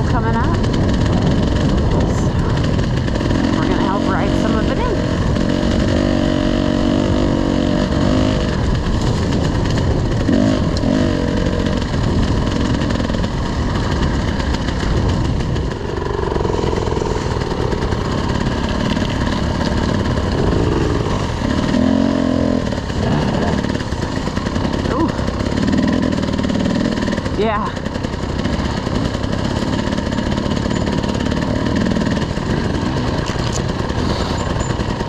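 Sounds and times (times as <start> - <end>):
dirt bike engine running: 0.0 - 35.0.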